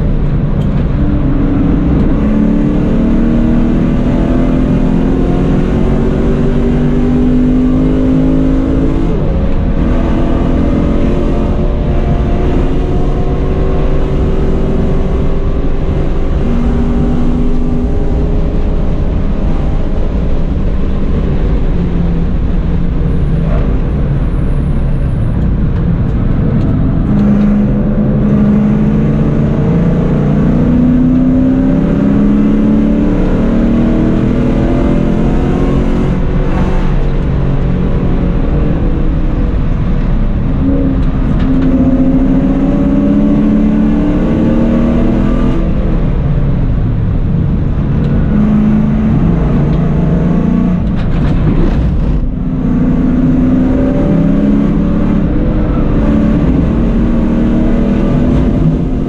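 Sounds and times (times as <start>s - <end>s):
car engine revving through gears: 0.0s - 59.0s
road and wind noise: 0.0s - 59.0s.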